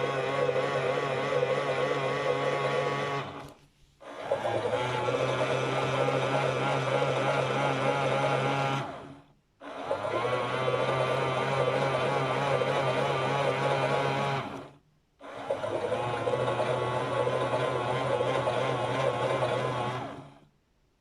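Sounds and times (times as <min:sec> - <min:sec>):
toy washing machine motor whining: 0:00.0 - 0:20.5.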